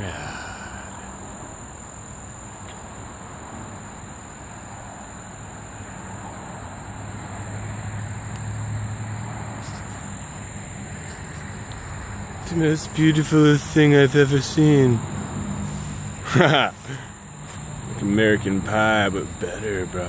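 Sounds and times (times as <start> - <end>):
high insect buzz: 0.0 - 20.0.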